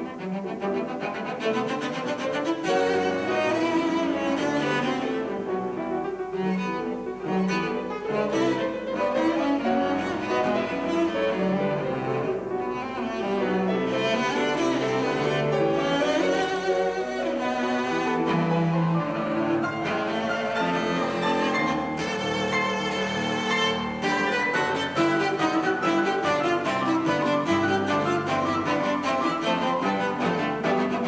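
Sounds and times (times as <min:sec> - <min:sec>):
solo cello bowed: 0:00.0 - 0:31.0.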